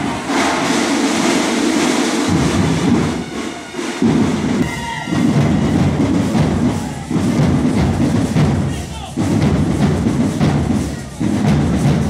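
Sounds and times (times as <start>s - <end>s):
hubbub of large crowd: 0.0s - 12.0s
marching band drums pounding: 0.0s - 12.0s.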